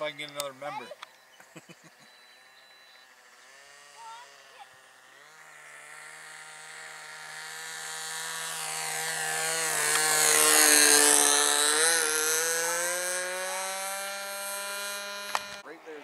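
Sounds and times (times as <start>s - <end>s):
model airplane engine buzzing: 0.0s - 16.0s.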